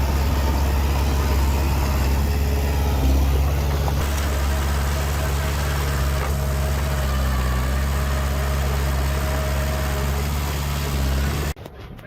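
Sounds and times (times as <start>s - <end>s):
heavy diesel engine running: 0.0s - 11.6s.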